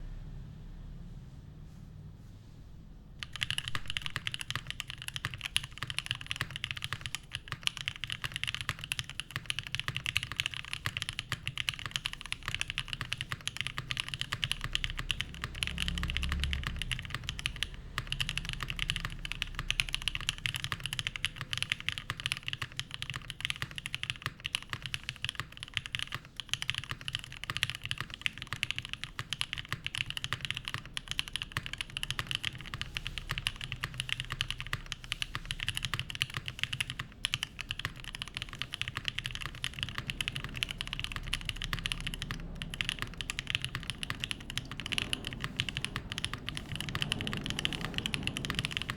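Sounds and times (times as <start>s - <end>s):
mechanical keyboard typing: 3.2s - 48.9s.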